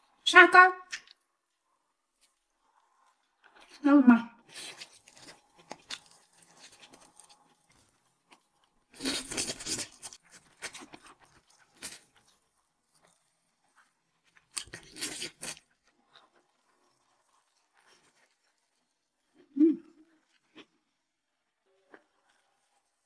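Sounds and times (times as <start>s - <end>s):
quiet chewing: 4.4s - 23.0s.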